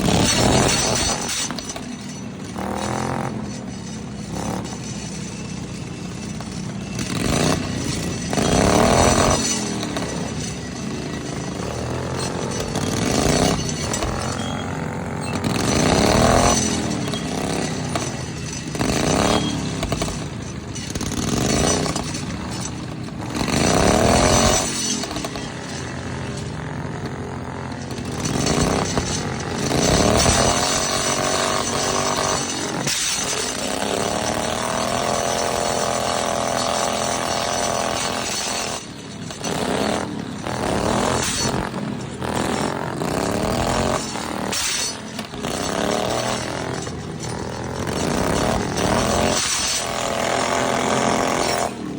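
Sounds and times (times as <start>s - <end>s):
lawnmower engines revving: 0.0s - 51.9s.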